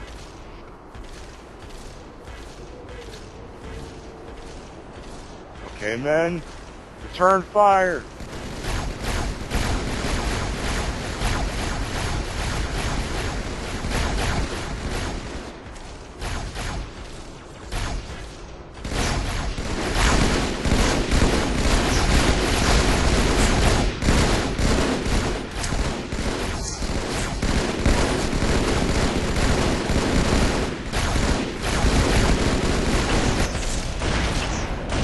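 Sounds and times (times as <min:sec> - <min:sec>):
guns firing rapidly: 0:00.0 - 0:35.0.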